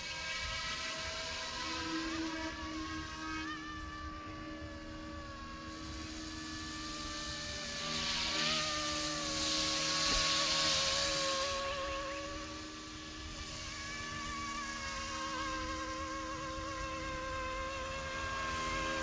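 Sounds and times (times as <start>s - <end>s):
electric motor whine: 0.0s - 19.0s
helicopter rotors whirring: 0.0s - 19.0s.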